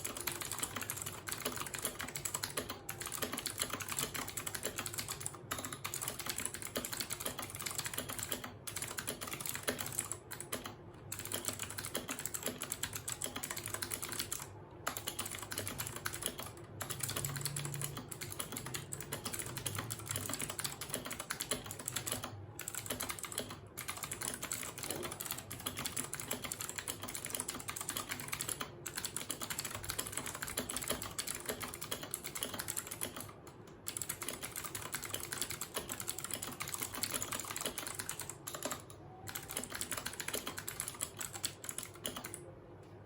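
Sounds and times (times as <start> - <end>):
clicky mechanical keyboard typing: 0.0 - 43.0.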